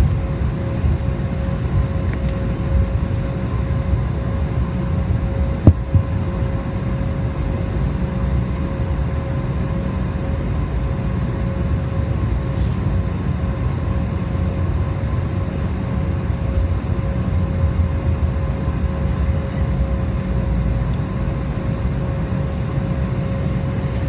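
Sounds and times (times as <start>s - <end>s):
jet engine roar in cabin: 0.0s - 24.0s.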